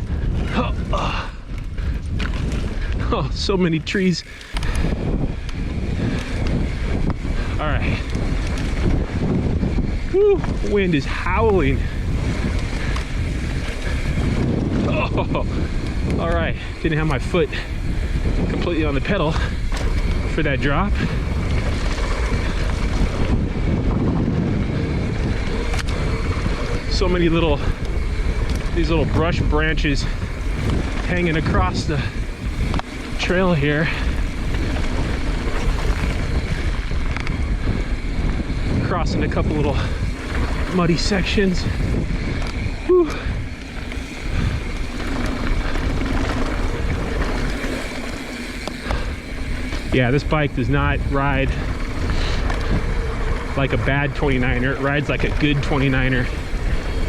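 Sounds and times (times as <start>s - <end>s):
bike rolling on dirt trail: 0.0s - 57.0s
wind buffeting microphone: 0.0s - 57.0s.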